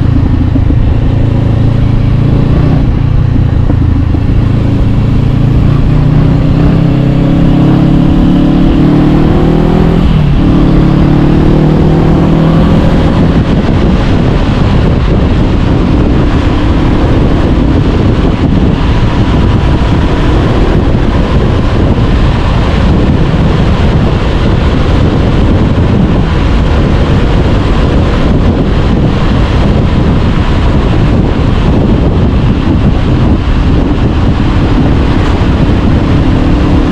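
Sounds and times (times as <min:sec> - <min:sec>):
motorcycle engine accelerating: 0:00.0 - 0:36.9
wind noise at speed: 0:00.0 - 0:36.9.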